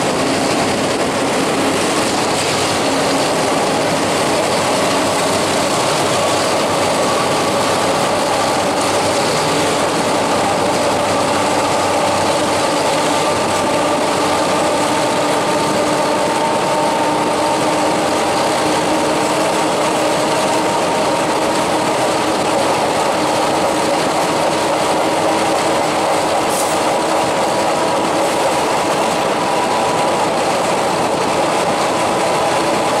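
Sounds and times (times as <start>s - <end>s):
steady train tones: 0.0s - 33.0s
train wheels rushing on track: 0.0s - 33.0s.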